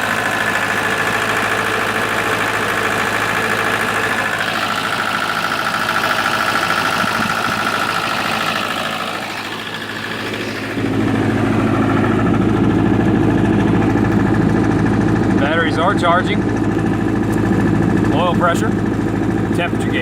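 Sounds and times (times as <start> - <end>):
diesel generator running: 0.0 - 20.0.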